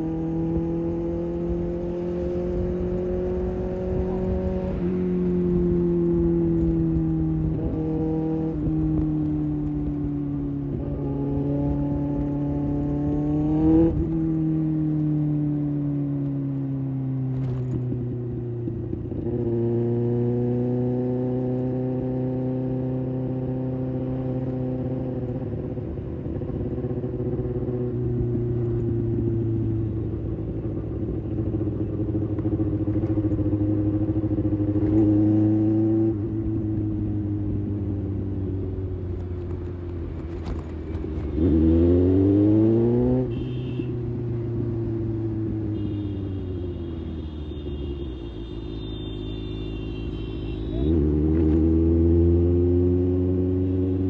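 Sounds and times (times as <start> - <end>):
motorcycle engine revving: 0.0 - 47.8, 48.8 - 54.0
wind and road noise: 0.0 - 54.0.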